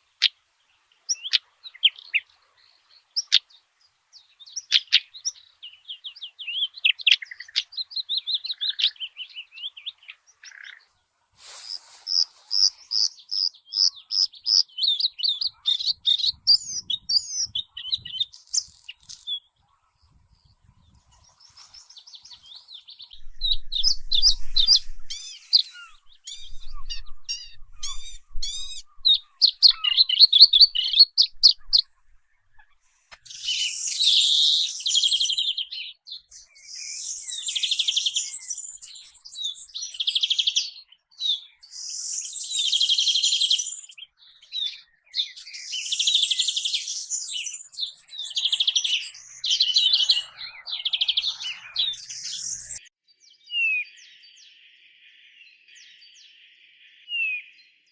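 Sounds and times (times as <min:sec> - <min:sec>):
songbirds chirping and trilling: 0:00.0 - 0:57.9.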